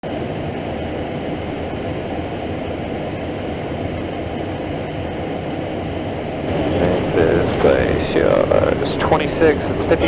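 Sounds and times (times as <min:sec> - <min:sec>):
jet cockpit airflow and engine hum: 0:00.0 - 0:10.0.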